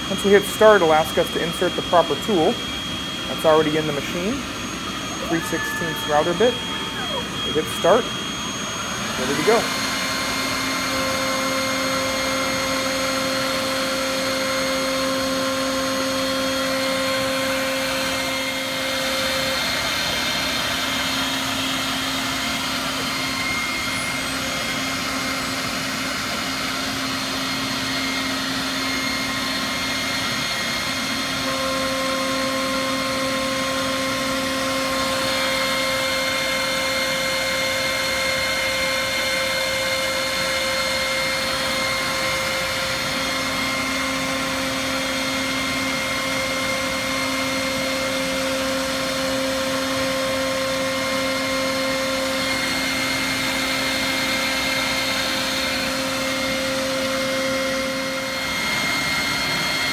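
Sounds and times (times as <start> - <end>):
router spindle whine: 0.0 - 59.9.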